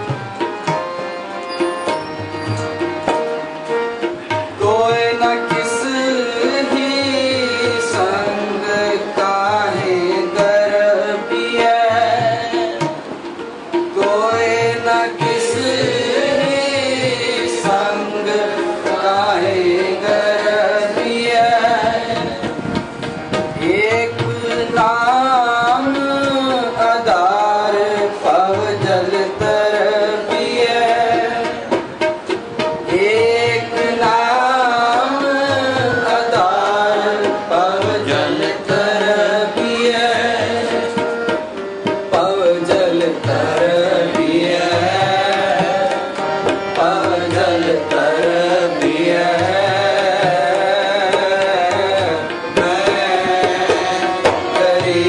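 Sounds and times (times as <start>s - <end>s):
tabla playing a beat: 0.0s - 55.0s
person singing a hymn: 3.6s - 13.2s, 13.9s - 55.0s.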